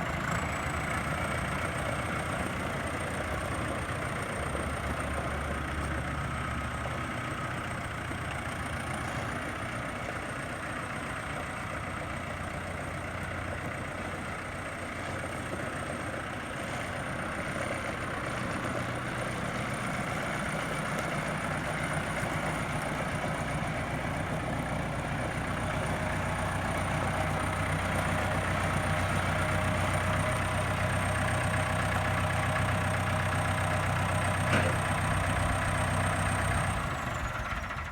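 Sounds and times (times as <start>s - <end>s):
tractor diesel engine idling: 0.0s - 37.9s.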